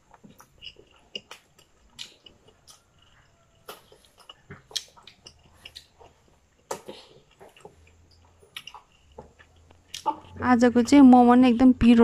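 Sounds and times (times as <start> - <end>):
wet chewing and lip smacks: 0.0 - 10.4.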